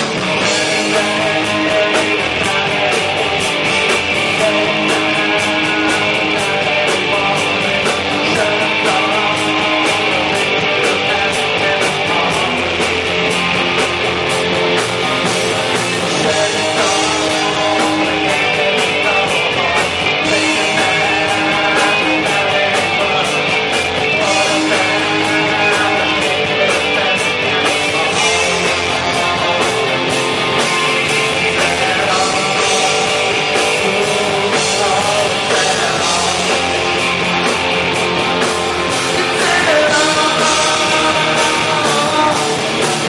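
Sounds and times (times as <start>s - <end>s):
electric guitar: 0.0s - 43.0s
person singing: 0.0s - 43.0s
rock band playing live: 0.0s - 43.0s.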